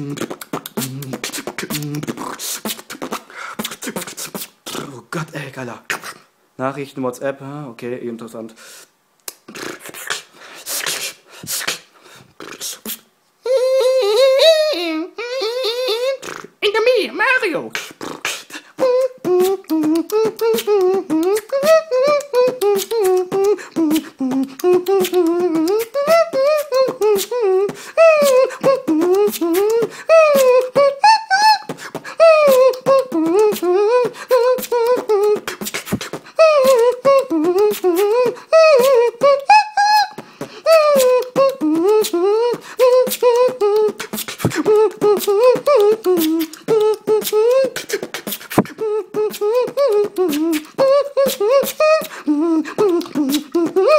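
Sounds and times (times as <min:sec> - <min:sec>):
wordless vocal melody: 0:00.0 - 0:06.2, 0:09.4 - 0:53.9
person beatboxing: 0:00.0 - 0:06.3, 0:09.3 - 0:53.9.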